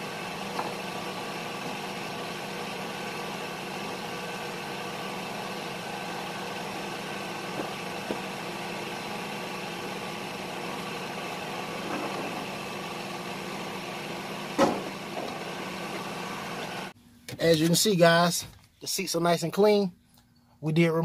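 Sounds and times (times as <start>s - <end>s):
engine idling with knocks: 0.0s - 16.9s.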